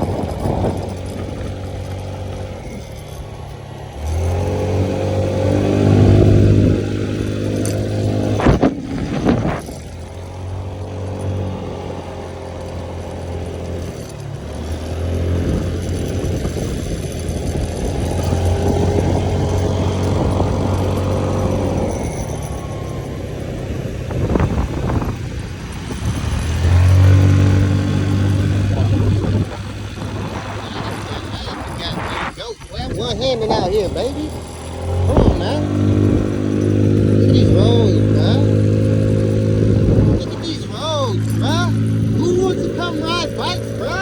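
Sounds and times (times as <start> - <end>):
wind noise: 0.0 - 12.0, 14.3 - 44.0
moped engine revving: 0.0 - 44.0.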